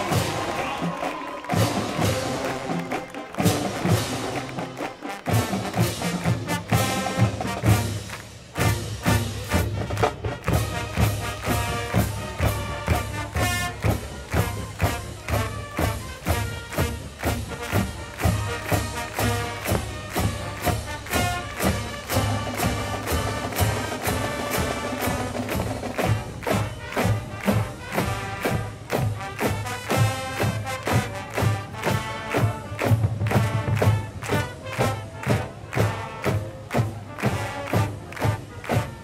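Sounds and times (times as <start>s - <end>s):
marching band playing a march: 0.0s - 39.0s
steady drum beat: 0.0s - 39.0s.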